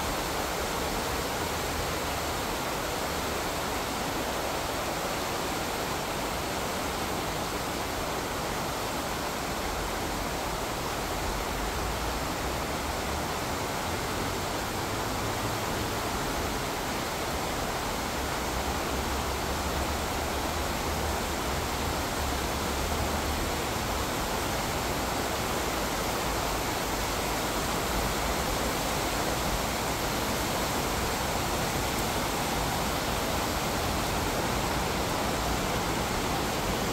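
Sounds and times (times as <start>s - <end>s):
fast-flowing stream rushing: 0.0s - 36.9s.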